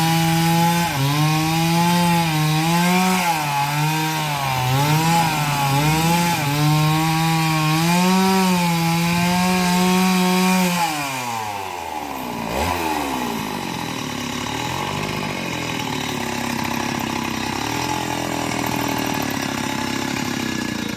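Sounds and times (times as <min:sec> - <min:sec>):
chainsaw cutting wood: 0:00.0 - 0:20.9.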